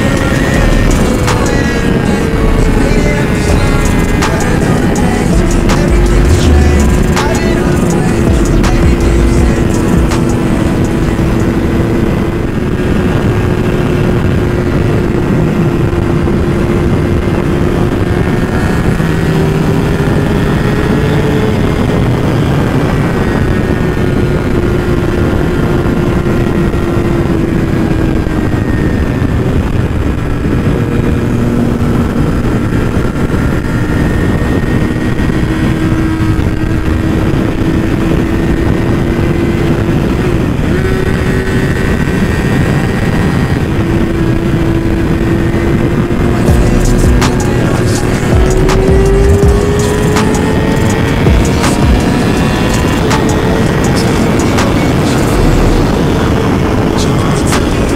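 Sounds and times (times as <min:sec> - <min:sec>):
motorcycle engine at high revs: 0:00.0 - 0:57.9
wind rushing on microphone: 0:00.0 - 0:57.9.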